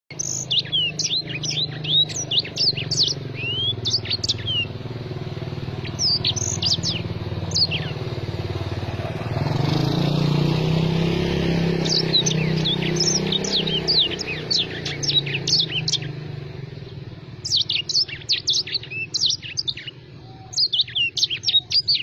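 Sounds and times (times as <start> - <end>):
songbird twittering: 0.1 - 8.8, 10.7 - 22.0.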